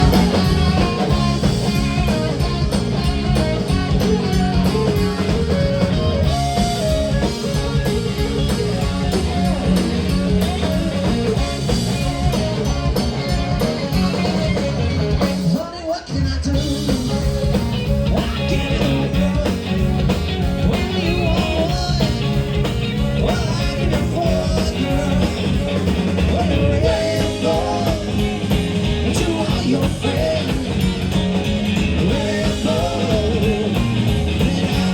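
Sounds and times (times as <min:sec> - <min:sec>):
live rock band with singer: 0:00.0 - 0:34.9.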